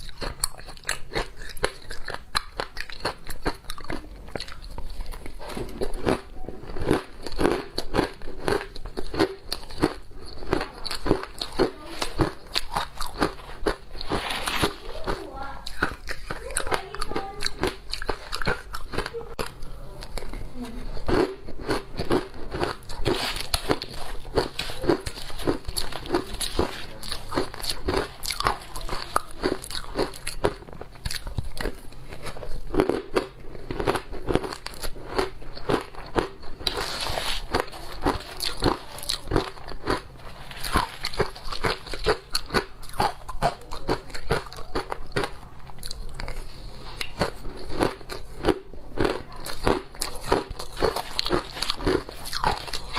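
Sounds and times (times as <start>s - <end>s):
crunching shaved ice: 0.0s - 20.3s, 21.0s - 52.9s.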